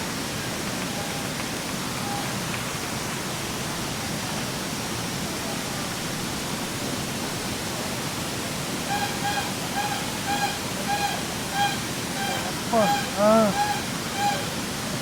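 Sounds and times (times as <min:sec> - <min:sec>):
rushing water roar: 0:00.0 - 0:15.0.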